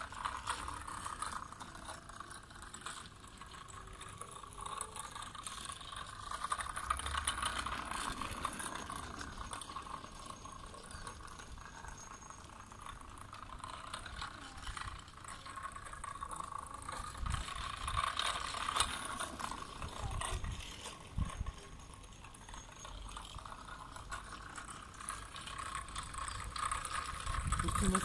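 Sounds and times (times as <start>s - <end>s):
go-kart rattling over asphalt: 0.0s - 28.0s.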